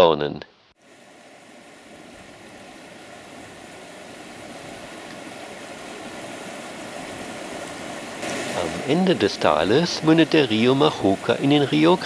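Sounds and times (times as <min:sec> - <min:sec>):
river rushing over rapids: 0:00.8 - 0:12.0.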